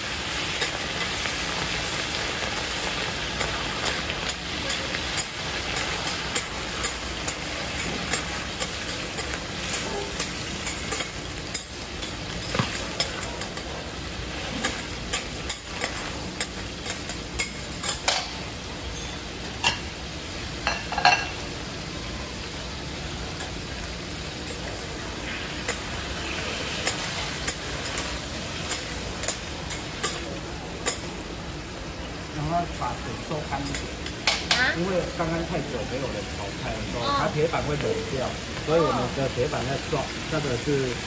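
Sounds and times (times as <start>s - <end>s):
vegetables sizzling on griddle: 0.0s - 41.0s.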